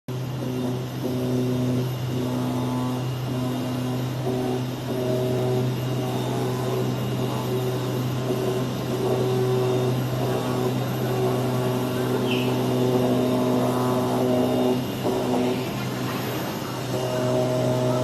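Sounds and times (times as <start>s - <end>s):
machine hum: 0.1s - 18.0s
motor whines: 0.1s - 18.0s.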